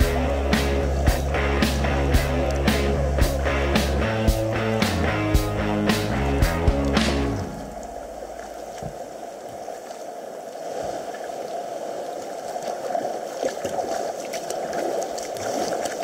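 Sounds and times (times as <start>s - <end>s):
water lapping against kayak hull: 0.0s - 16.0s.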